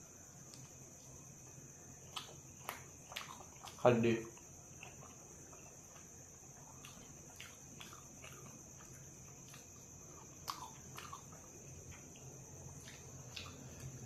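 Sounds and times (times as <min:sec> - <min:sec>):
chewing food: 0:00.4 - 0:14.0.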